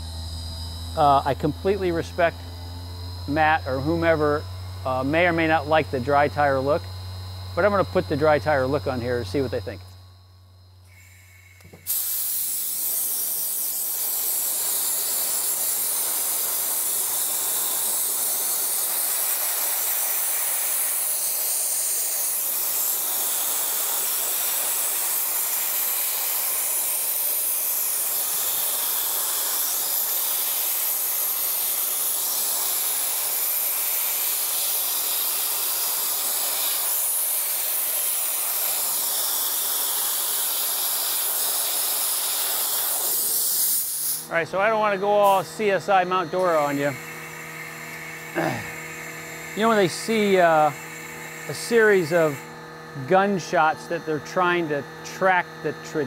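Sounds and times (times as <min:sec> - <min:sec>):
dry ice blasting gun hiss: 0:00.0 - 0:56.0.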